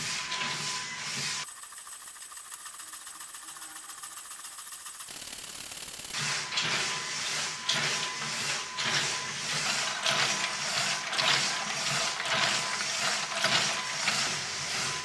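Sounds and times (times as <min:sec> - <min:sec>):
motor and gears ticking: 0:00.0 - 0:15.0.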